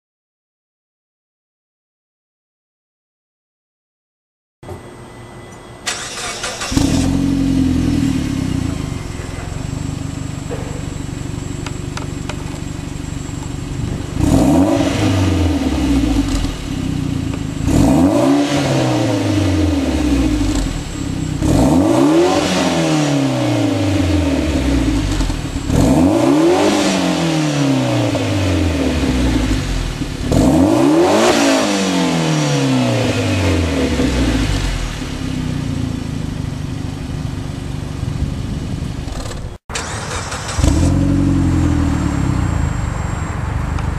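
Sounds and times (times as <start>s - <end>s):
car engine idling and revving: 5.9s - 43.9s.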